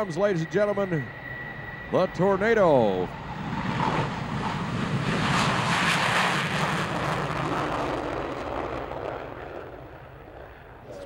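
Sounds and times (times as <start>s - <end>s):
jet engine roar at takeoff: 0.0s - 11.0s.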